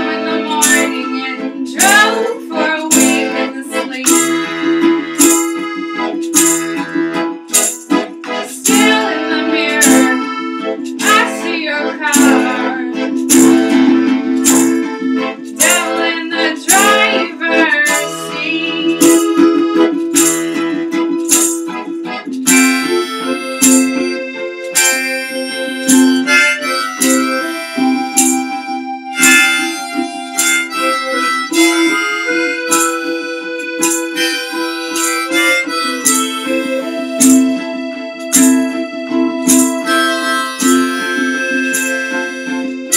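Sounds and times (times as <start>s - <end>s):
acoustic guitar strumming: 0.0s - 42.9s
harmonica playing: 0.0s - 42.9s.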